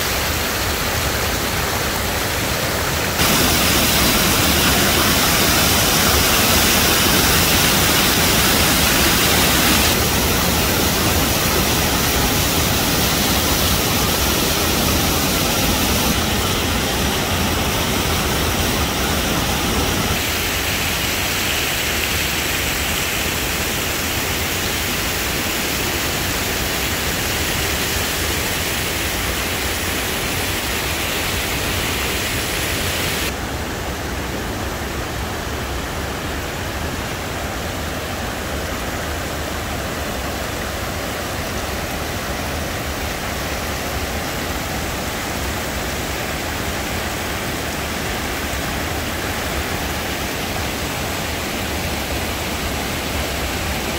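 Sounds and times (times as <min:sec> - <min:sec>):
water rushing over rocks: 0:00.0 - 0:53.9.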